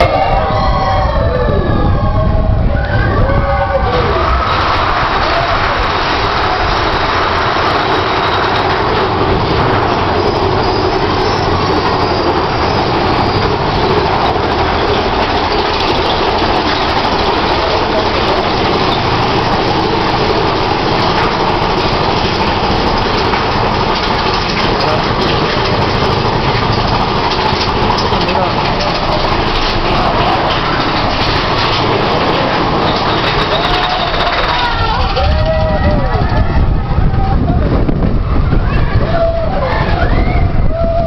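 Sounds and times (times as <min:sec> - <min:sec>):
roller coaster train rattling: 0:00.0 - 0:41.0.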